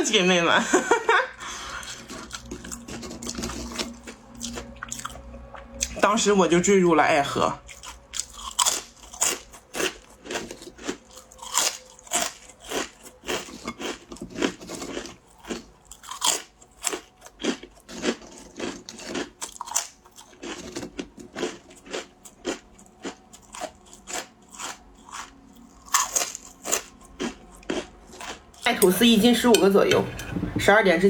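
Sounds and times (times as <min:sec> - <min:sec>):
crunching and chewing crackers: 0:01.3 - 0:06.1, 0:07.6 - 0:28.7.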